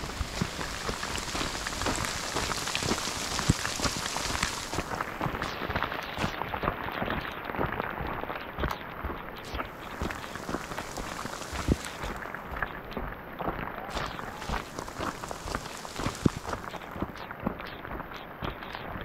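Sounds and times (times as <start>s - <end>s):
rain falling: 0.0s - 17.6s
sharp taps of raindrops: 0.0s - 18.8s.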